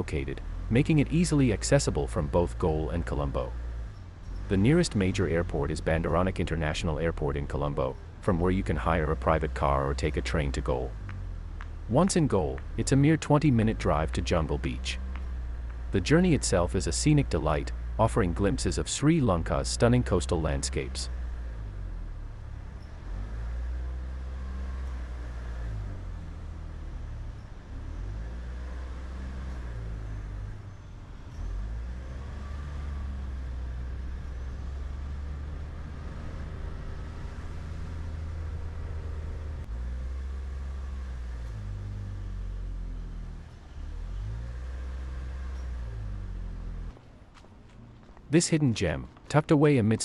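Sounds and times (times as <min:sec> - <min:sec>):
vehicle engine and road noise: 0:00.0 - 0:50.0.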